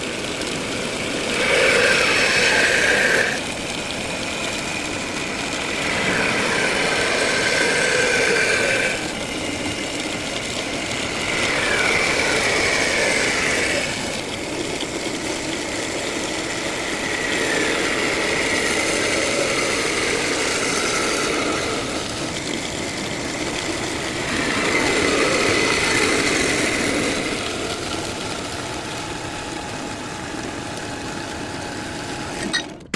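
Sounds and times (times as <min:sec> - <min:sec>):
electric grinder on steel: 0:00.0 - 0:32.6.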